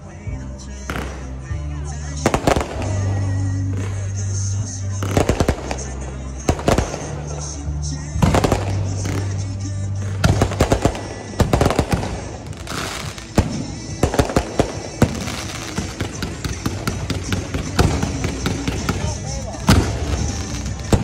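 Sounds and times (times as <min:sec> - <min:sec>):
fireworks bursting: 0:00.7 - 0:21.0.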